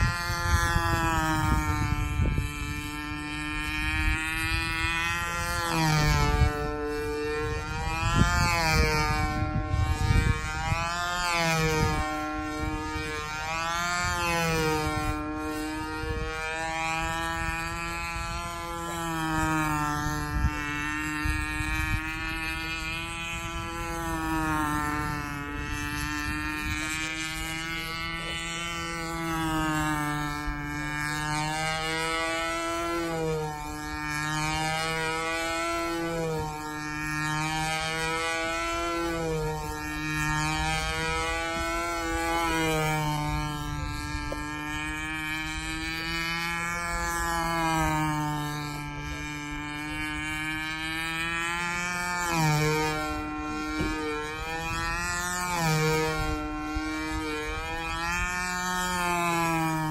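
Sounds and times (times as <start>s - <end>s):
model airplane motor droning: 0.0s - 59.9s.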